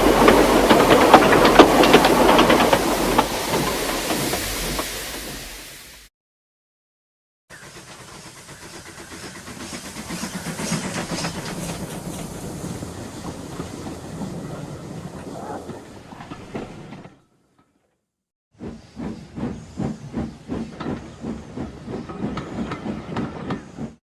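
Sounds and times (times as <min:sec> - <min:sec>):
train clickety-clack on rails: 0:00.0 - 0:05.6, 0:07.5 - 0:17.2, 0:18.6 - 0:24.0.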